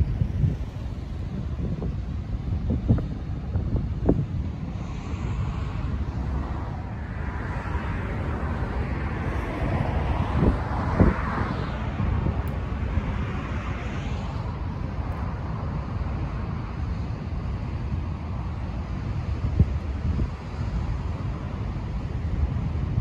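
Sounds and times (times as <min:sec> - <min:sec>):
rough surf rushing: 0:00.0 - 0:23.0
wind buffeting microphone: 0:00.0 - 0:23.0.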